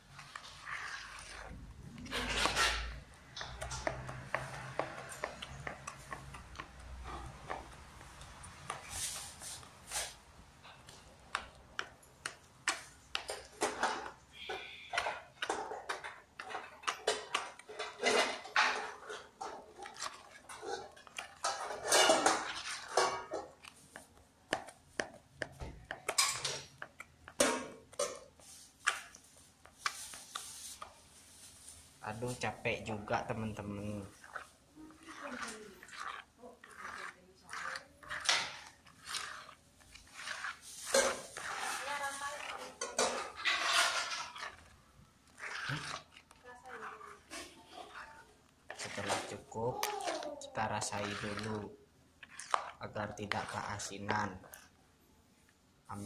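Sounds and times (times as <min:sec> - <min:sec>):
spoon scraping plastic bowl: 0:00.0 - 0:54.8.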